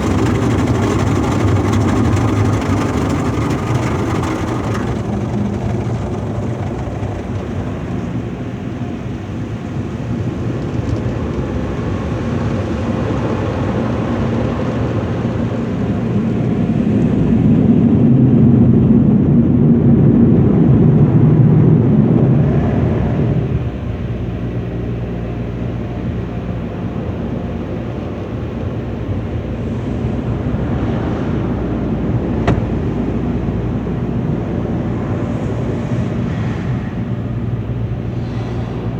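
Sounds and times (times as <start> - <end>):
car wash mechanical rumble: 0.0 - 38.9.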